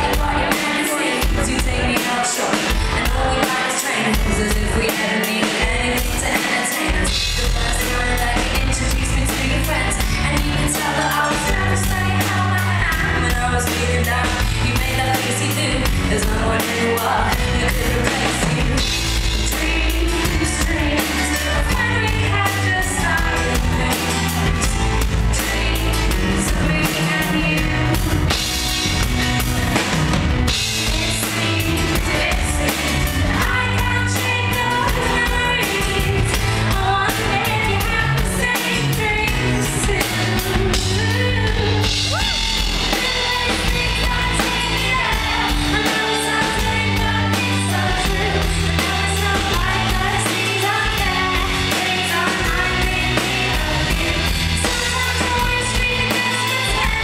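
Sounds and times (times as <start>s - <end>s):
bass line: 0.0s - 0.6s, 1.2s - 2.0s, 4.1s - 4.9s, 5.6s - 57.0s
female lead vocal: 0.0s - 29.9s, 30.5s - 57.0s
drums: 0.0s - 57.0s.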